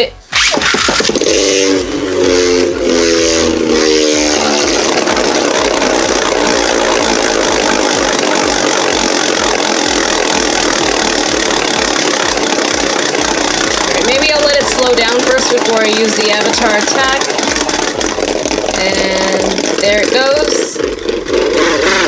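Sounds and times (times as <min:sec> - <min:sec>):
pulsing buzzing tone: 0:00.0 - 0:22.0
spinning top whirring rattle: 0:00.3 - 0:22.0.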